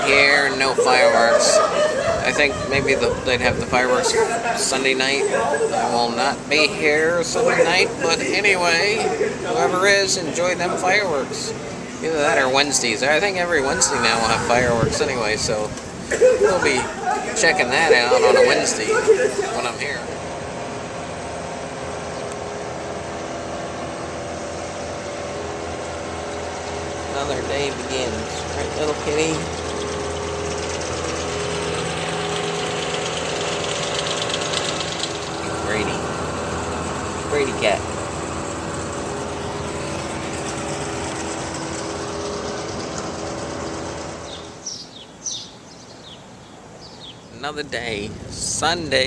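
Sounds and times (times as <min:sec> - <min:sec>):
sustained tones: 0:00.0 - 0:44.7
noisy rush: 0:00.0 - 0:49.0
steady mechanical hum: 0:00.0 - 0:49.0.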